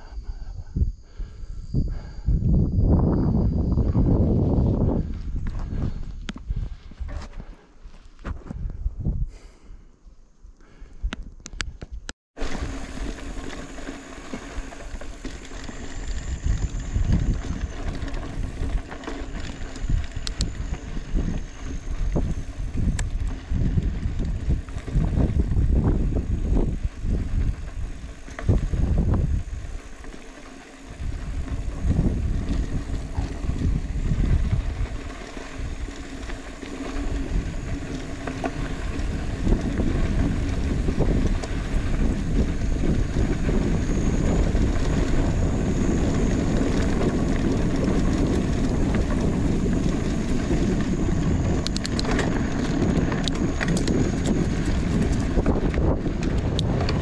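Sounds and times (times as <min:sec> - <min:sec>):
wind buffeting microphone: 0:00.0 - 0:07.6, 0:08.2 - 0:09.8, 0:10.6 - 0:57.0.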